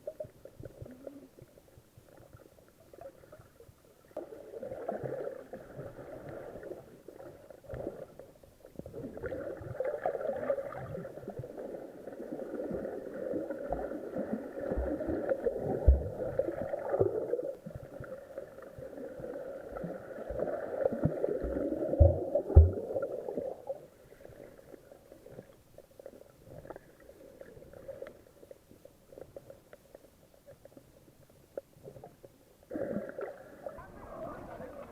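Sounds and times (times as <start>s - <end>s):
water sloshing and gurgling: 0.0s - 34.9s.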